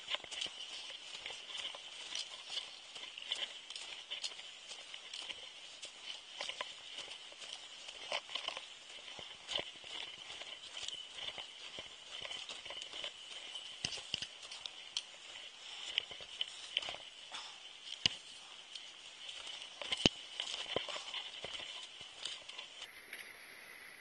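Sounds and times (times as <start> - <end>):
footsteps crunching in snow: 0.0 - 22.9.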